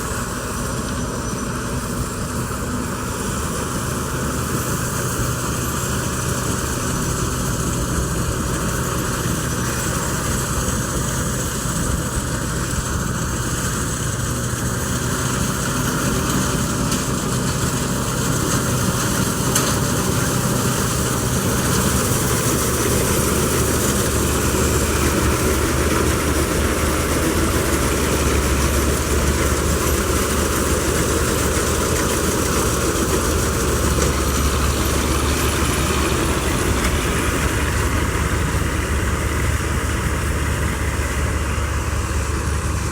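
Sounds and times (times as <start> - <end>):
harvesting machinery engine drone: 0.0 - 42.9.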